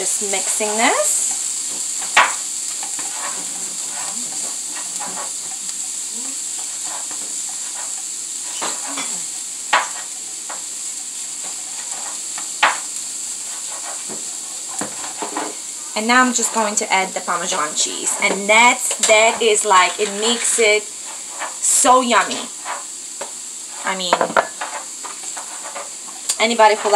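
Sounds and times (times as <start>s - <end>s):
food sizzling in a frying pan: 0.0s - 26.9s.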